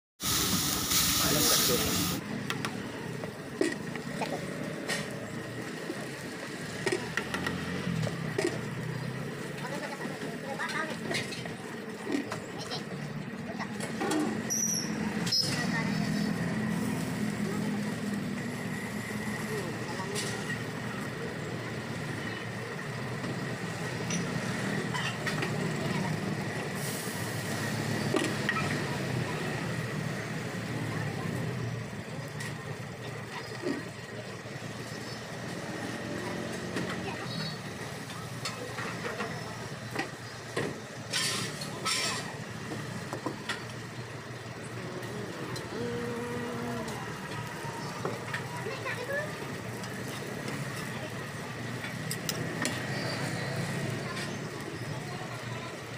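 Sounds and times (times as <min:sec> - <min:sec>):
engines humming: 0:00.2 - 0:55.9
voices talking: 0:00.9 - 0:55.9.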